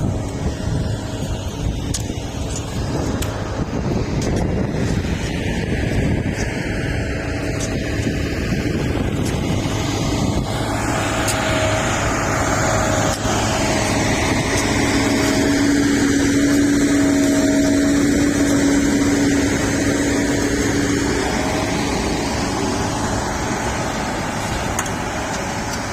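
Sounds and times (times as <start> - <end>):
bulldozer diesel engine running: 0.0 - 25.9
steady whine: 0.0 - 25.9.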